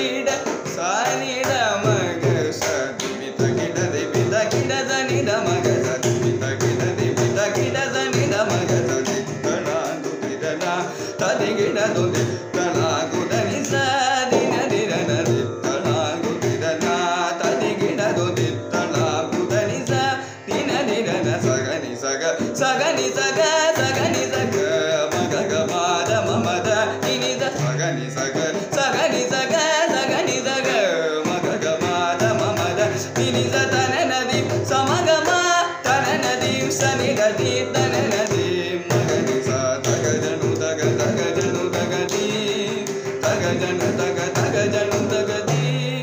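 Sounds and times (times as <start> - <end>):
man singing: 0.0 - 46.0
mridangam strokes: 0.0 - 46.0.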